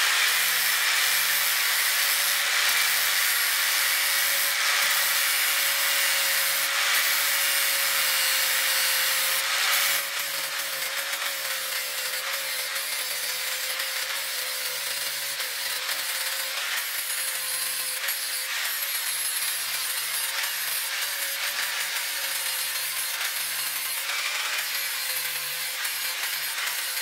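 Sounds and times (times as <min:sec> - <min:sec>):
angle grinder grinding steel: 0:00.0 - 0:27.0.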